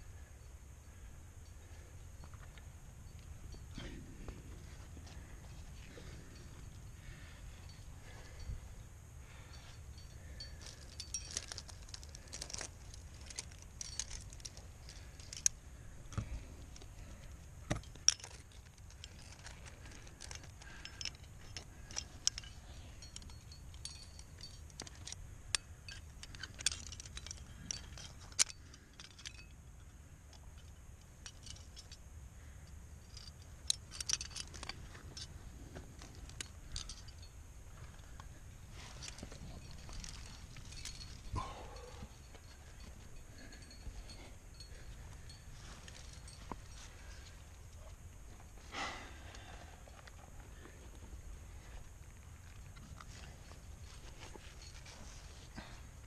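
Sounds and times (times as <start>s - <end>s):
climbing gear jangling and clinking: 0.3s - 56.0s.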